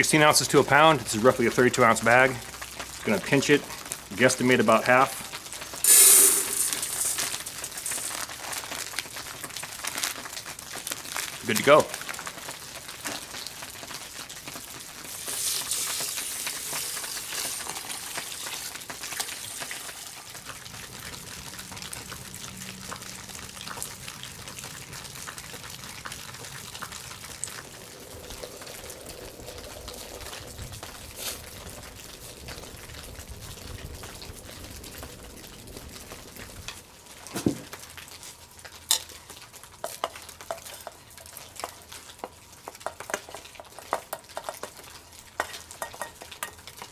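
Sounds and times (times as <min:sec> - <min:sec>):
food sizzling in a pot: 0:01.9 - 0:46.9.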